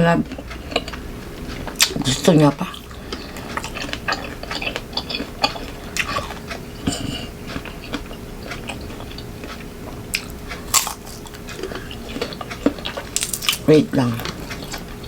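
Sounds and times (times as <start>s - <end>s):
crunching and chewing mango: 0.0s - 15.0s.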